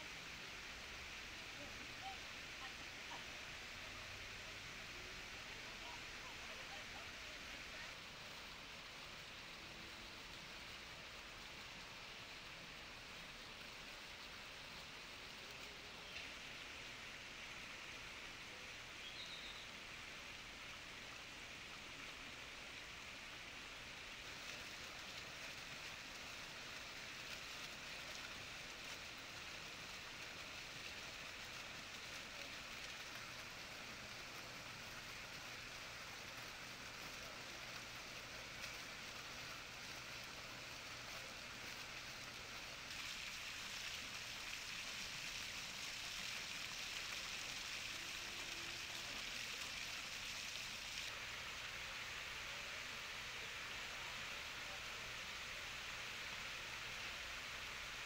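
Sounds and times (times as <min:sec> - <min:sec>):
running water splashing: 0:00.0 - 0:58.0.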